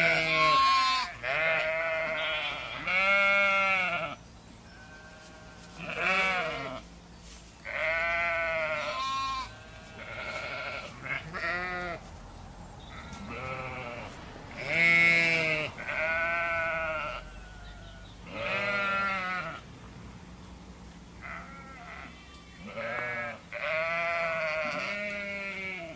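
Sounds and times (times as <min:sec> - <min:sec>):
sheep bleating: 0:00.0 - 0:06.9, 0:07.6 - 0:12.1, 0:12.9 - 0:19.6, 0:21.2 - 0:25.9.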